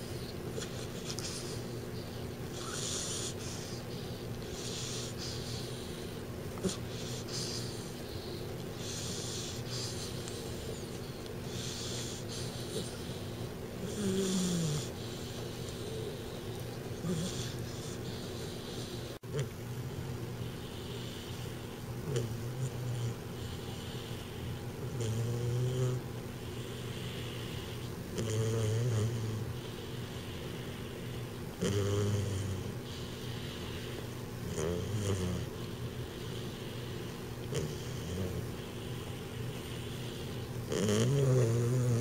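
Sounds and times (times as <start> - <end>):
puppy snoring: 0.0 - 19.6, 20.3 - 42.0
puppy breathing softly: 0.0 - 28.2, 28.8 - 42.0.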